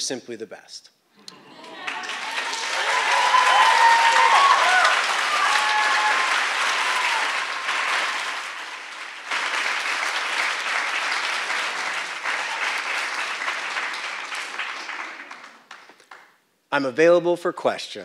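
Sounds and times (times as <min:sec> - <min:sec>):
audience applauding: 0:01.3 - 0:16.4.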